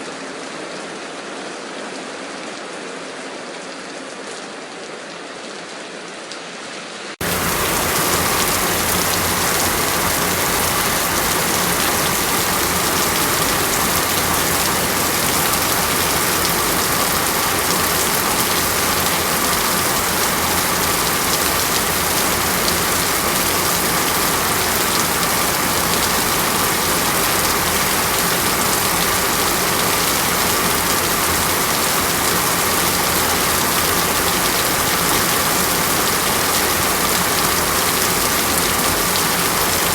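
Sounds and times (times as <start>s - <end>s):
heavy rain hiss: 7.2s - 39.9s.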